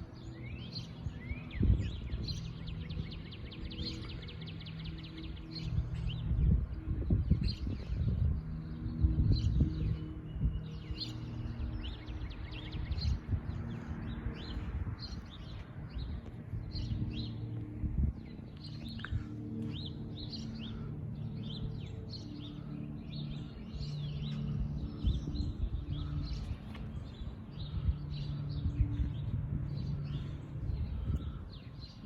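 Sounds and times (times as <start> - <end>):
songbirds chirping and twittering: 0.0 - 32.0.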